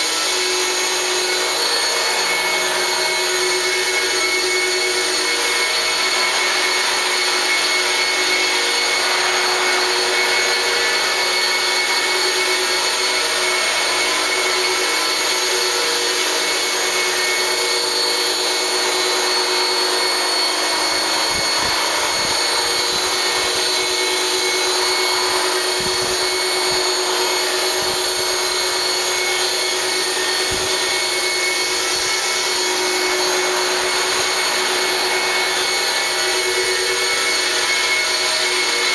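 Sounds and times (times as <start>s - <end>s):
electric motor and gears whine: 0.0s - 38.9s
rotor blades whirring: 0.0s - 38.9s.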